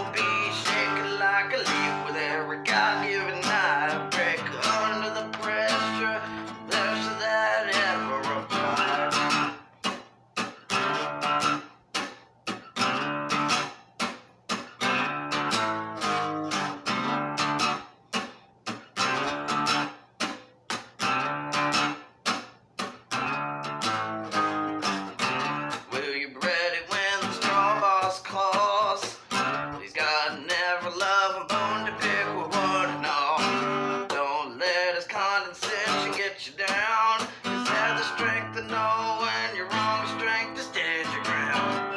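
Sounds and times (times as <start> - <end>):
guitar chords strummed: 0.0 - 41.9.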